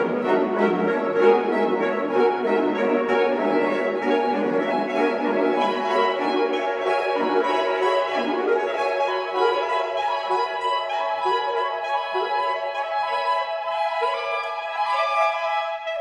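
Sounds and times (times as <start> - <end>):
saxophone ensemble playing: 0.0 - 14.8.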